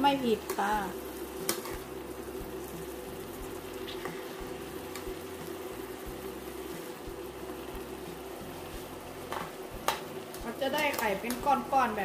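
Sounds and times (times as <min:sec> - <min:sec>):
food bubbling and sizzling in pan: 0:00.0 - 0:12.0.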